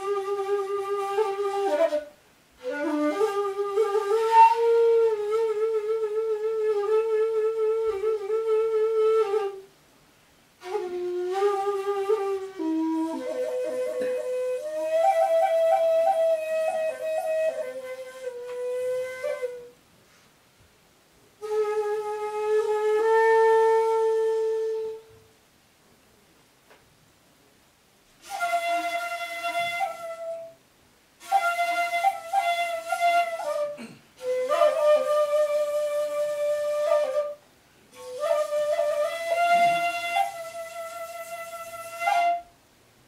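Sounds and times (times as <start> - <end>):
breathy bamboo flute: 0.0 - 9.7, 10.6 - 20.2, 21.4 - 25.3, 28.2 - 30.6, 31.2 - 42.6.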